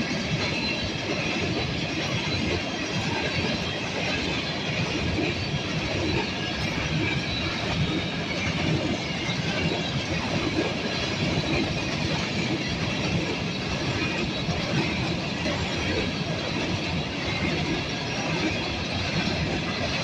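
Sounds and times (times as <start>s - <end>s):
train wheels rumbling and clattering: 0.0s - 20.0s.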